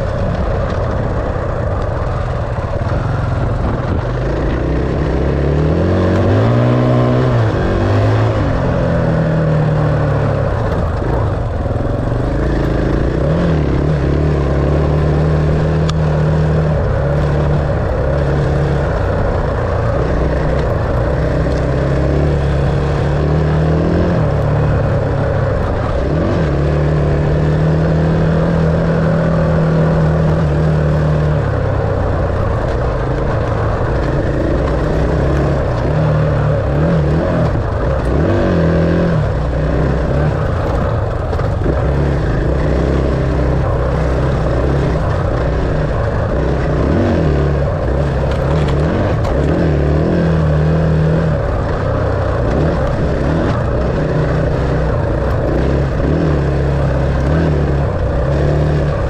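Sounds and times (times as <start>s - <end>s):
dirt bike engine revving: 3.0s - 59.0s.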